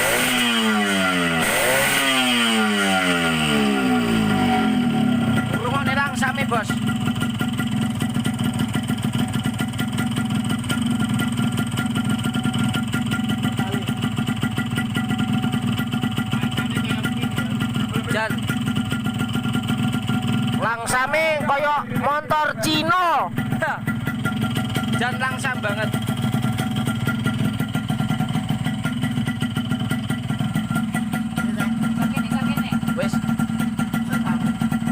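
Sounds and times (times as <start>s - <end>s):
two-stroke engine idling: 0.0s - 34.9s.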